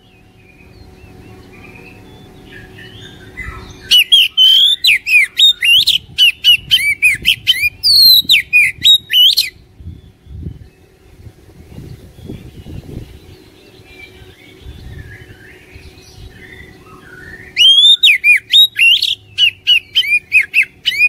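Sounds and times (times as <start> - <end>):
bird singing whistled notes: 0.0 - 21.0.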